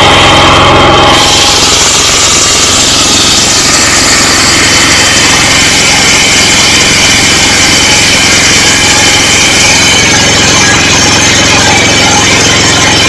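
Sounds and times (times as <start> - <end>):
diesel generator running: 0.0 - 13.0.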